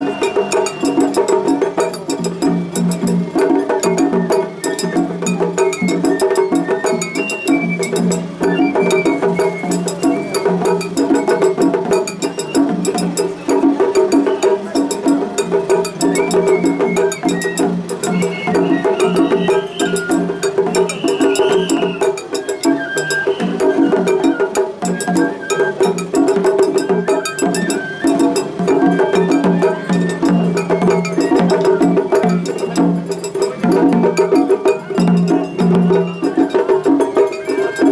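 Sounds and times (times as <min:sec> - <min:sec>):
bamboo flute melody: 0:00.0 - 0:37.9
taiko drums: 0:00.0 - 0:37.9.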